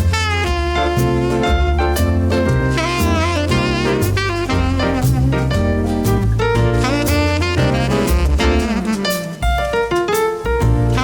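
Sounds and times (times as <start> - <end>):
low bass line: 0.0 - 9.8
piano notes: 0.0 - 11.0.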